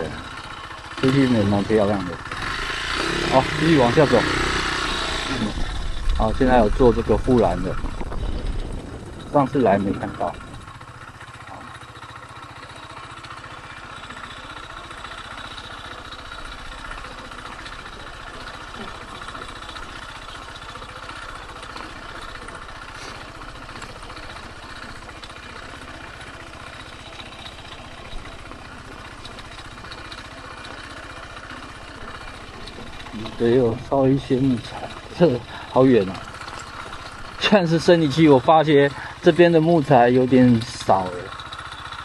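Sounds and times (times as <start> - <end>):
motorcycle engine idling low: 0.0 - 42.0.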